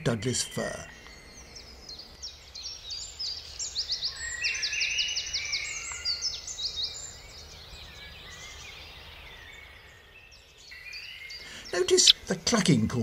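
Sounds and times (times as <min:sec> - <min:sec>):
woodpecker nestlings begging calls: 0:00.0 - 0:09.0, 0:09.6 - 0:13.0.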